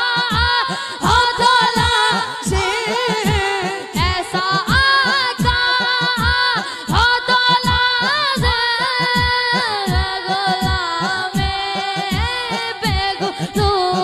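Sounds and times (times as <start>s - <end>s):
boy singing into a microphone: 0.0s - 14.0s
low drum thumps: 1.1s - 13.8s.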